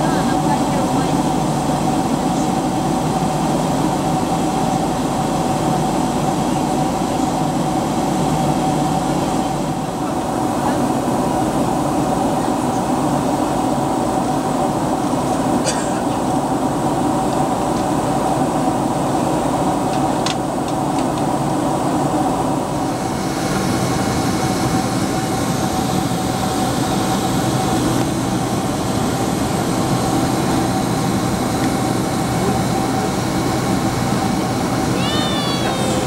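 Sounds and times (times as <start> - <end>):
jet engine and airflow rush: 0.0 - 36.0
steady cabin hum: 0.0 - 36.0.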